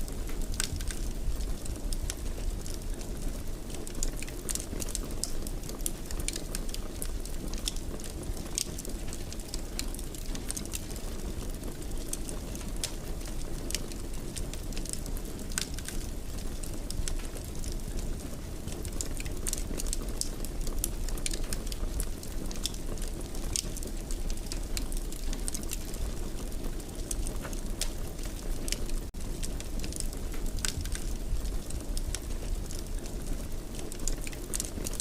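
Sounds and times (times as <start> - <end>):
burning wood crackling and popping: 0.0 - 35.0
fireplace fire rumbling: 0.0 - 35.0.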